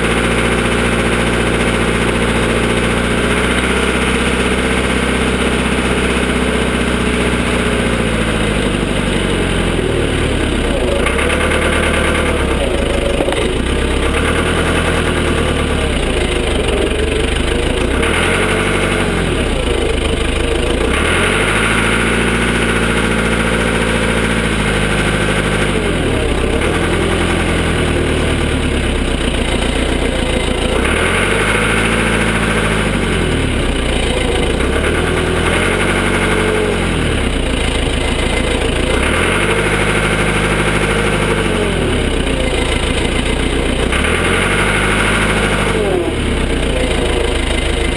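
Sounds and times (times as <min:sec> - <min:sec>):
backhoe diesel engine revving: 0:00.0 - 0:47.9.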